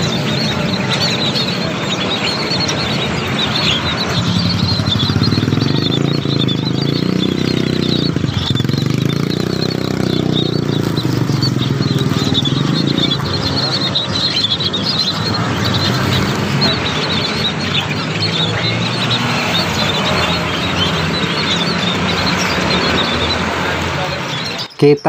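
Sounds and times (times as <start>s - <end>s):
engine running low: 0.0s - 24.8s
birds chirping: 0.0s - 25.0s.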